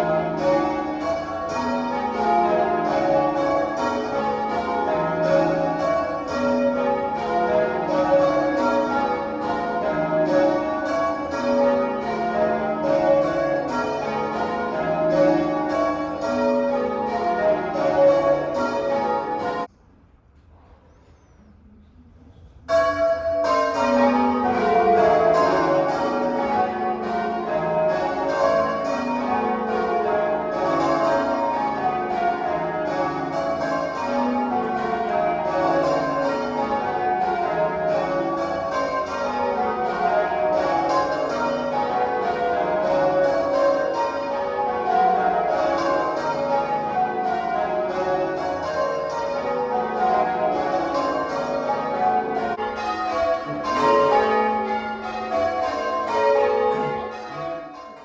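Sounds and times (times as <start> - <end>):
tower bells ringing in descending rows: 0.0 - 19.7, 22.7 - 58.0.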